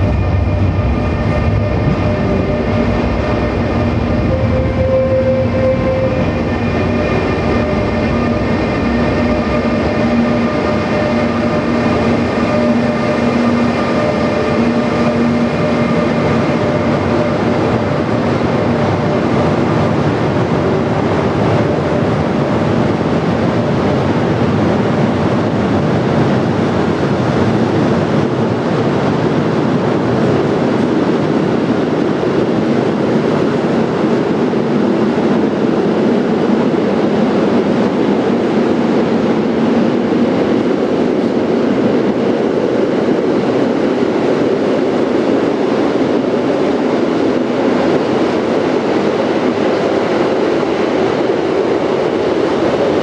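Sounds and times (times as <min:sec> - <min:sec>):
electric locomotive whine: 0:00.0 - 0:53.0
train wheels clattering on rails: 0:00.0 - 0:53.0.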